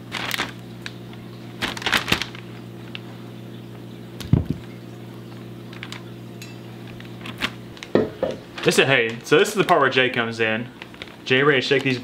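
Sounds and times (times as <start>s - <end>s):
plastic bags crinkling: 0.0s - 12.0s
steady electrical hum: 0.0s - 12.0s.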